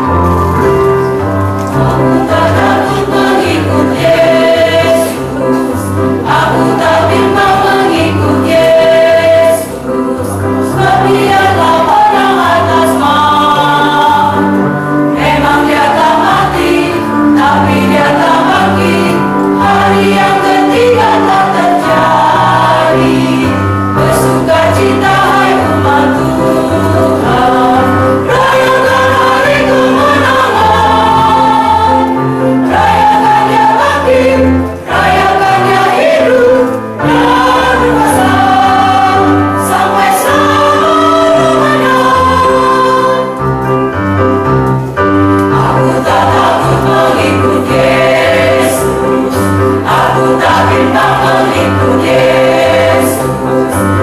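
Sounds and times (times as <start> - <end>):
mixed choir singing: 1.7 - 43.6, 45.1 - 54.0.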